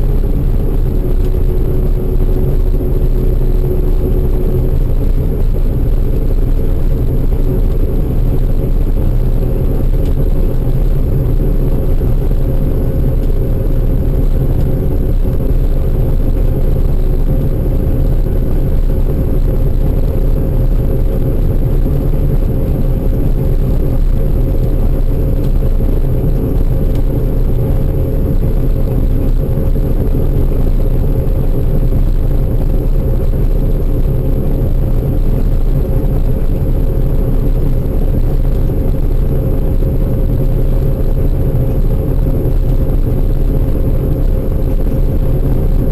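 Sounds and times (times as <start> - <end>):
faint steady hum: 0.0 - 45.9
large engine droning: 0.0 - 45.9.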